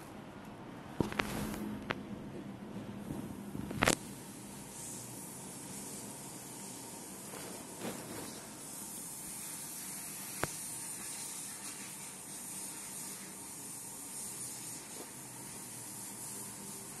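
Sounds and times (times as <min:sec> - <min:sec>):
faint steady hum: 0:00.0 - 0:17.0
steady hiss: 0:03.1 - 0:17.0.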